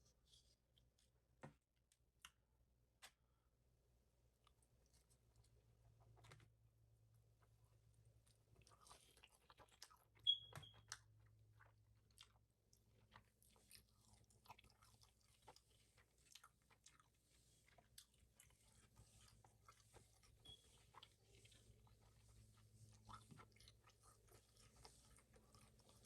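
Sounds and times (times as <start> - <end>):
close chewing and mouth sounds: 4.3 - 6.5, 7.2 - 26.0.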